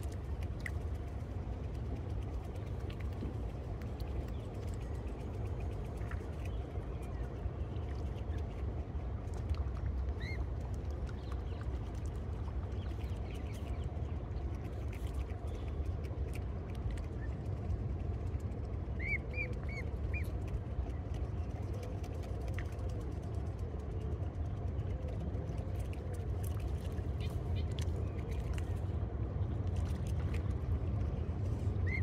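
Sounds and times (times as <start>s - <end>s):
light rain ticks: 0.0s - 28.9s
low rumble: 0.0s - 32.0s.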